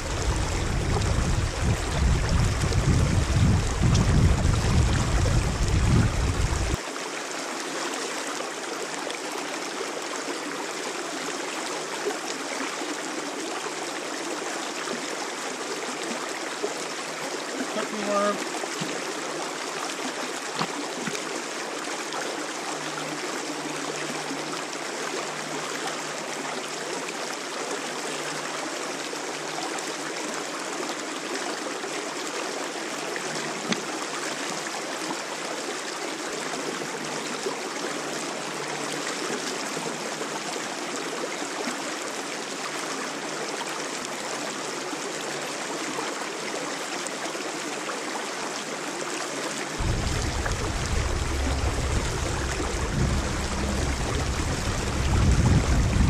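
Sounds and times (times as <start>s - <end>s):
shallow running water: 0.0s - 56.0s.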